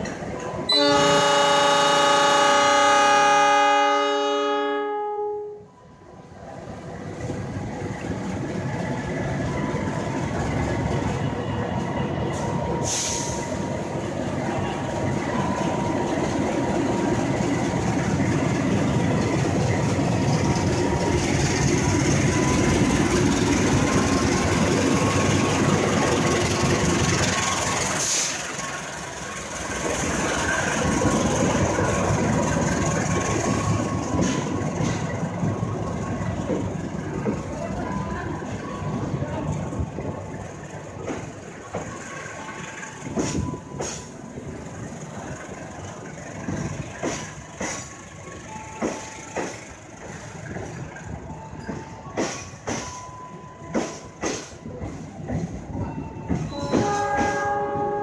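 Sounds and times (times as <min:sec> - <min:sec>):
train wheels rumbling on rails: 0:00.0 - 0:05.0, 0:06.4 - 0:58.0
diesel locomotive engine: 0:00.0 - 0:58.0.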